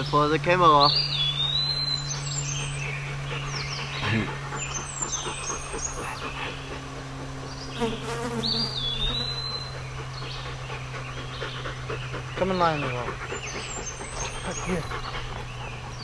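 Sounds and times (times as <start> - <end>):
birds chirping and whistling: 0.0 - 16.0
steady low hum: 0.0 - 16.0.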